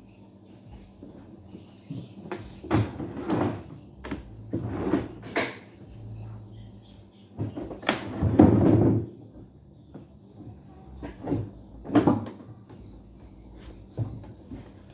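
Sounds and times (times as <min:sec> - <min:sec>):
faint low hum: 0:00.0 - 0:14.9.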